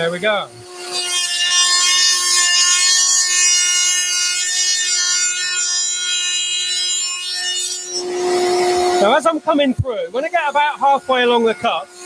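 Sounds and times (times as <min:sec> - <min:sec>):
router whining while cutting wood: 0:00.0 - 0:12.0.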